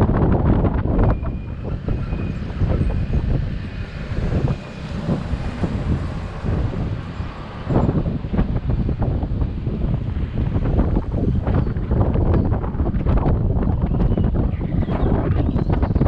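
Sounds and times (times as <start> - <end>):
low rumble of bike ride: 0.0 - 16.0
wind buffeting microphone: 0.0 - 16.0.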